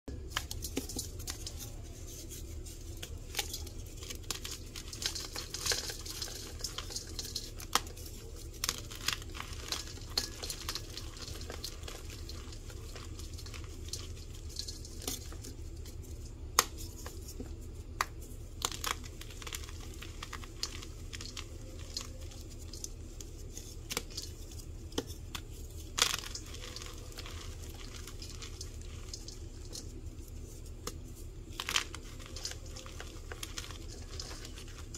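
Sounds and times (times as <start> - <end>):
powder blocks crunching by hand: 0.1 - 34.9
steady low hum: 0.1 - 34.9.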